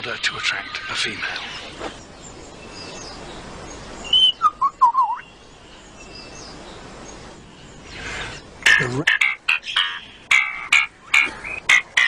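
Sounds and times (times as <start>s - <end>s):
bird chirping: 0.0s - 12.0s
faint background hiss: 0.0s - 12.0s.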